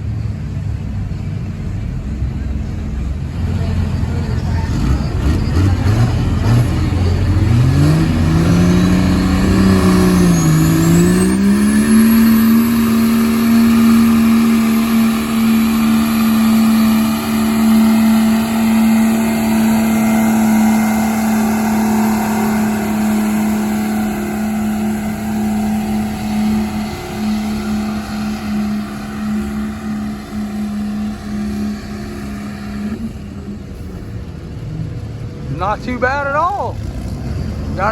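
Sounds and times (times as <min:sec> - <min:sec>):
diesel truck engine revving: 0:00.0 - 0:37.9.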